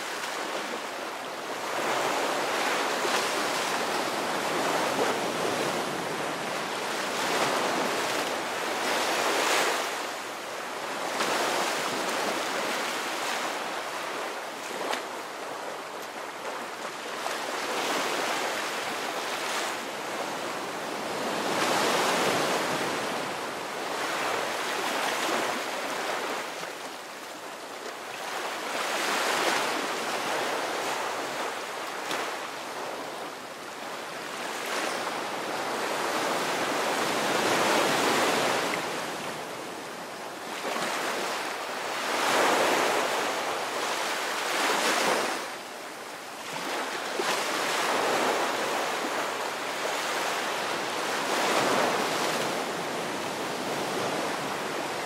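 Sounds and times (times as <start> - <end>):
waves breaking on beach: 0.0 - 55.0.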